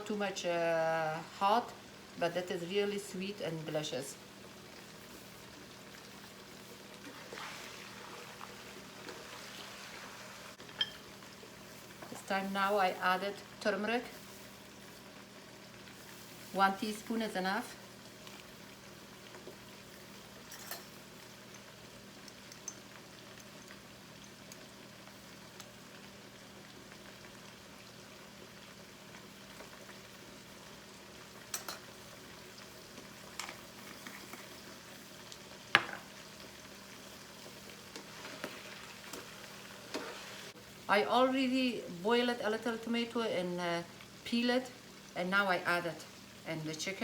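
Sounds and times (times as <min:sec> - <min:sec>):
food sizzling in oil: 0:00.0 - 0:47.0.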